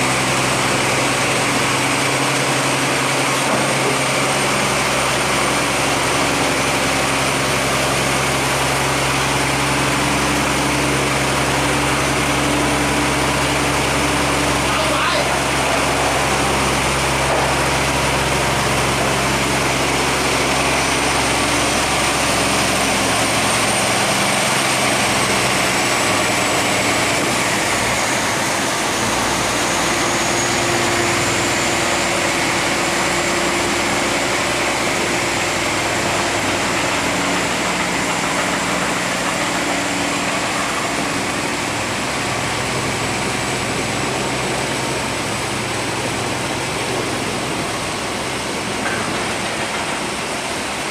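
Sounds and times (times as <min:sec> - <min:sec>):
boat engine running: 0:00.0 - 0:50.9
water rushing through sluice gate: 0:00.0 - 0:50.9.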